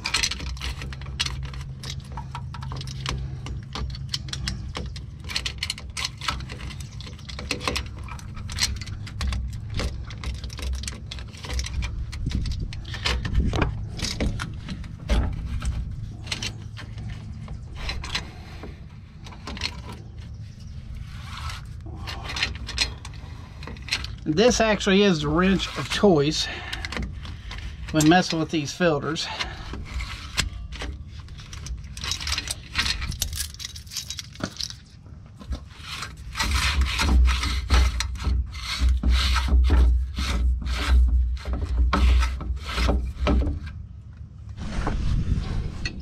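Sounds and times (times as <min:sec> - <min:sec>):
steady low hum: 0:00.0 - 0:38.1, 0:39.8 - 0:46.0
wrench clinking and scraping metal: 0:00.0 - 0:43.8.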